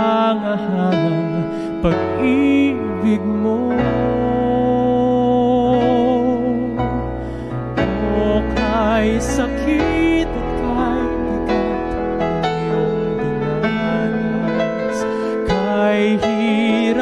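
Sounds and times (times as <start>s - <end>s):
person singing with vibrato: 0.0s - 17.0s
piano accompaniment: 0.0s - 17.0s.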